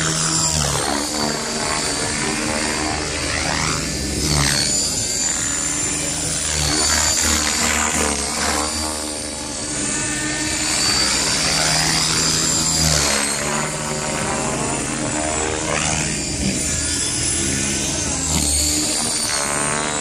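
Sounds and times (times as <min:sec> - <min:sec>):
rc helicopter rotor whining: 0:00.0 - 0:20.0.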